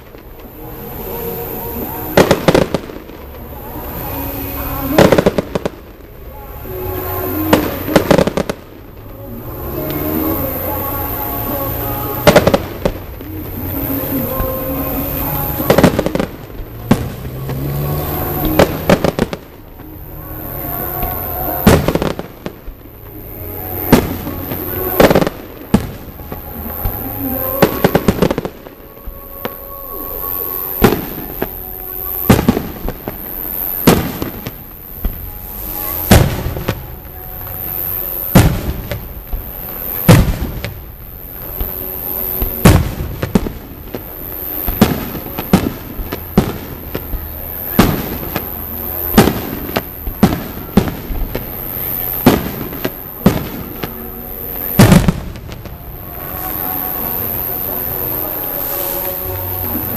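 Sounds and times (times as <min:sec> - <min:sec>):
firework shells bursting: 0:00.0 - 0:59.9.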